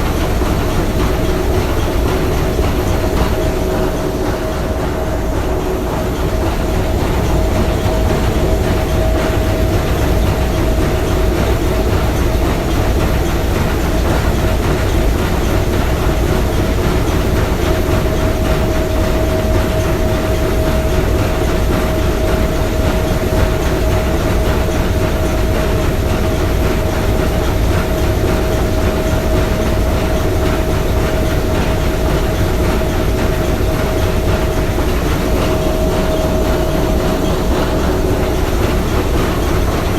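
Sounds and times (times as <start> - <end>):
steam engine clattering: 0.0 - 39.9.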